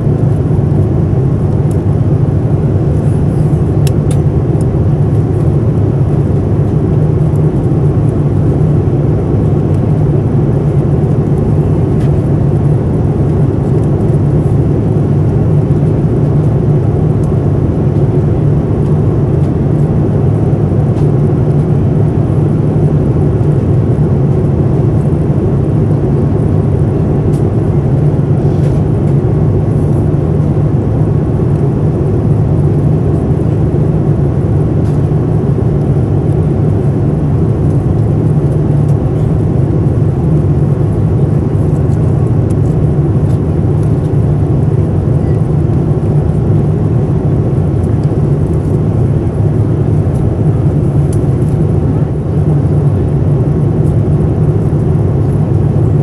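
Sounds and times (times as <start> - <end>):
airplane cabin noise: 0.0 - 56.0.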